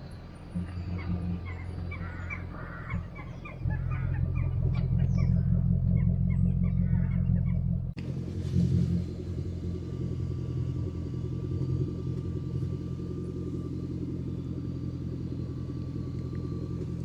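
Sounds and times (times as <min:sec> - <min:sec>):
birds chirping: 0:00.0 - 0:08.0, 0:09.0 - 0:17.0
car engine rumble from inside: 0:00.0 - 0:17.0.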